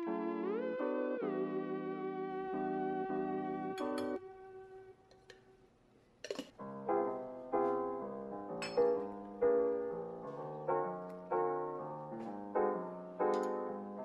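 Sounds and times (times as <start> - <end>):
slow piano chords: 0.0 - 4.9, 6.5 - 14.0.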